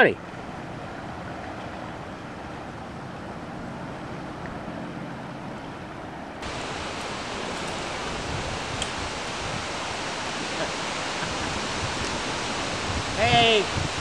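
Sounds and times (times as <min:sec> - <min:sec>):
river water rushing: 0:00.0 - 0:14.0
wind on microphone: 0:00.3 - 0:14.0.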